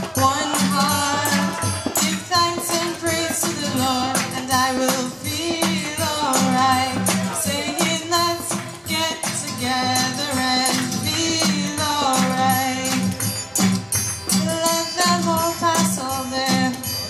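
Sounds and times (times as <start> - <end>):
woman singing: 0.0 - 13.4, 14.3 - 17.0
guitar strumming: 0.0 - 17.0.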